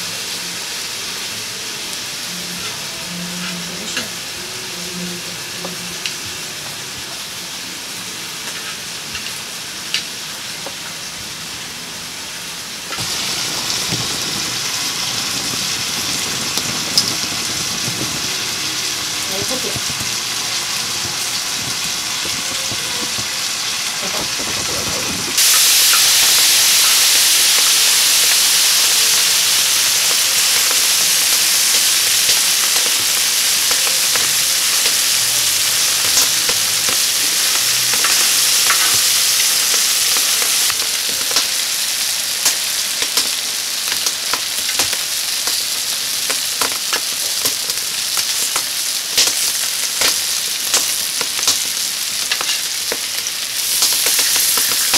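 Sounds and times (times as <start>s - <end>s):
meat and vegetables sizzling: 0.0s - 54.9s.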